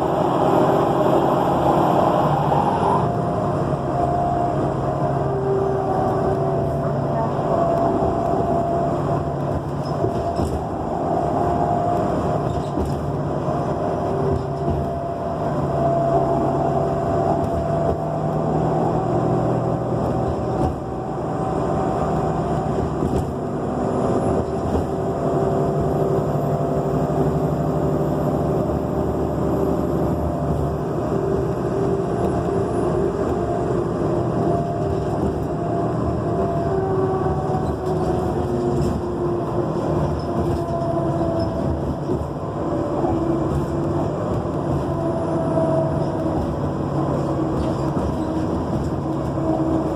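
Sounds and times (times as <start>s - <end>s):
bus engine and road noise: 0.0s - 49.9s
continuous whining tone: 0.0s - 49.9s.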